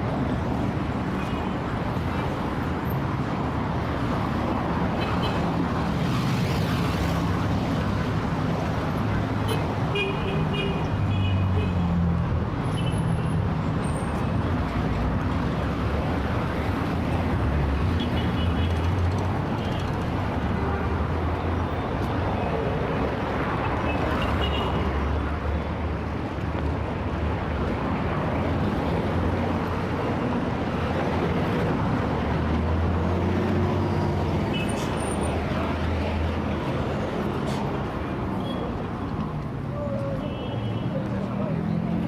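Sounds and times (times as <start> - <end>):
traffic rumble of engines and tyres: 0.0 - 42.0.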